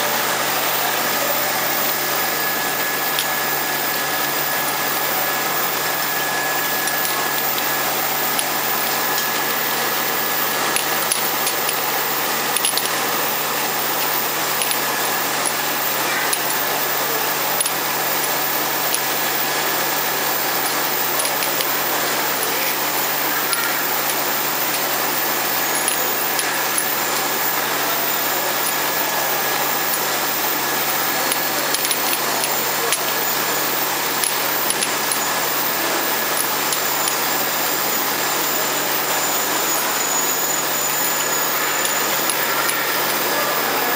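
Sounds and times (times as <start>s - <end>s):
faint high whine: 0.0s - 43.9s
washing machine mechanical noise: 0.0s - 43.9s.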